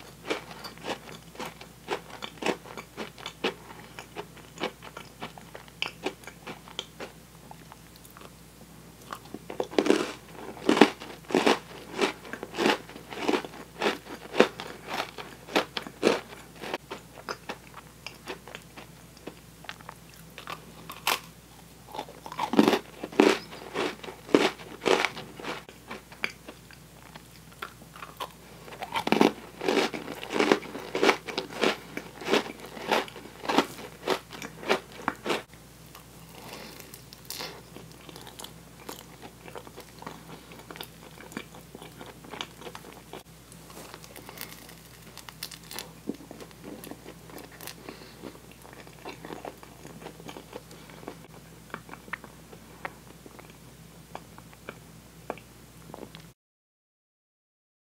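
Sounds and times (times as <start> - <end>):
crunching cookies: 0.0 - 8.3, 9.0 - 56.2
soft chewing: 0.0 - 8.4, 9.0 - 56.3.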